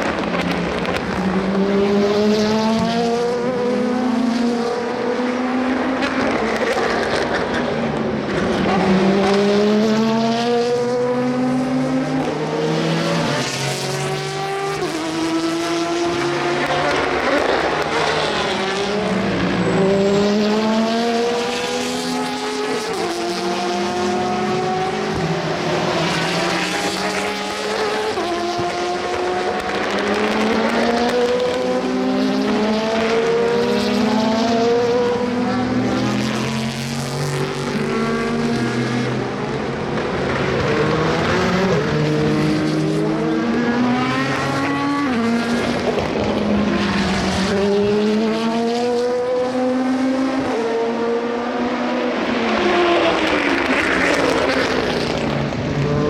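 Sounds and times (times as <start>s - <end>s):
race cars accelerating hard: 0.0s - 56.0s.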